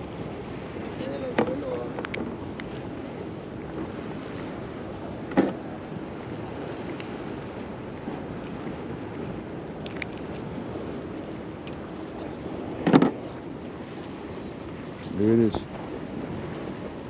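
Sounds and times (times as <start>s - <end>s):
sea surf: 0.0s - 17.0s
steady wind: 0.0s - 17.0s.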